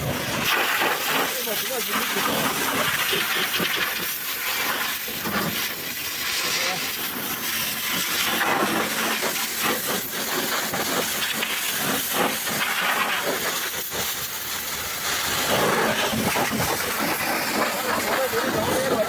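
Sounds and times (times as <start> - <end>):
high-pressure water spray hissing: 0.0 - 19.0.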